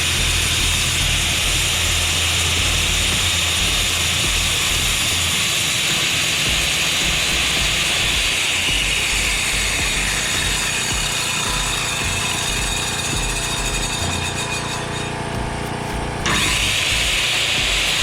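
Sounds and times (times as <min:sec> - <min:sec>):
power tool running: 0:00.0 - 0:18.0.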